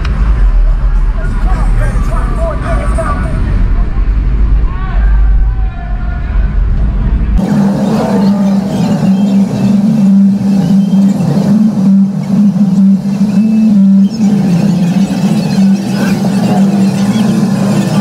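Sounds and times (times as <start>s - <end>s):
deep engine drone of traffic: 0.0s - 18.0s.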